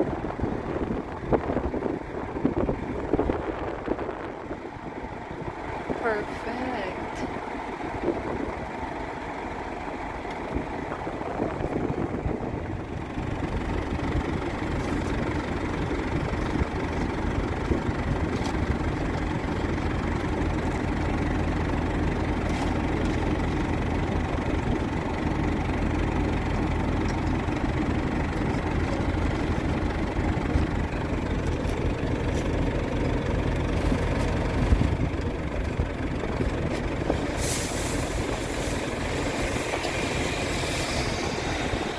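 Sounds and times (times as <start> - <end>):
heavy farm vehicle engine: 0.0 - 41.9.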